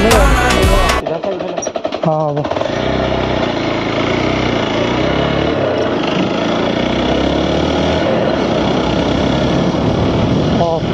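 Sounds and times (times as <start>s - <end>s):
dirt bike engine revving: 0.0s - 10.9s.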